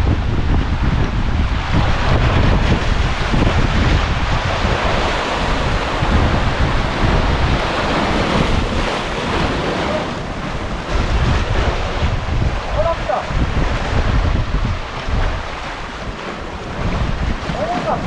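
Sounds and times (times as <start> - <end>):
wind buffeting microphone: 0.0 - 18.0
waves washing against rocks: 0.3 - 18.0.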